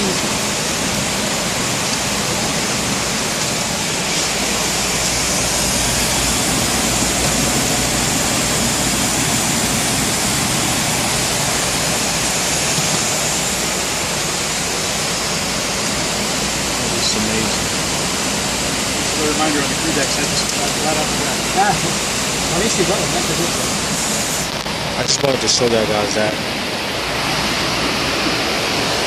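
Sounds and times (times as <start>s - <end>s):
aircraft cabin engine roar: 0.0s - 29.0s.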